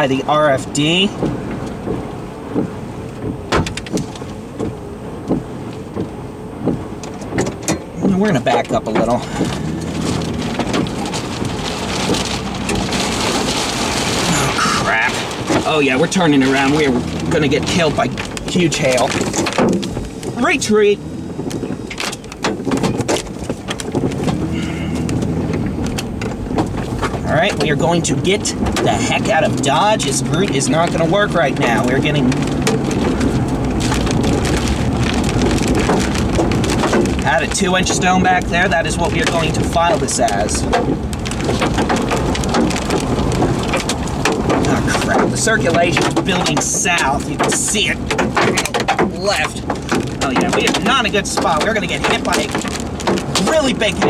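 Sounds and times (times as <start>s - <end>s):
hail striking car roof: 0.0s - 54.0s
wind-driven rain hiss: 0.0s - 54.0s
vehicle engine running: 0.1s - 54.0s.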